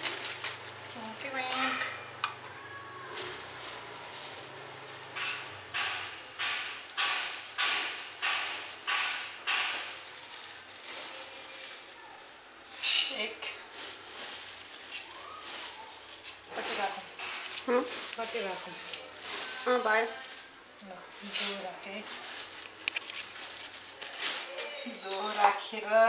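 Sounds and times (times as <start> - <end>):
clinks and scrapes in metal colander: 4.2 - 13.6, 14.2 - 25.8.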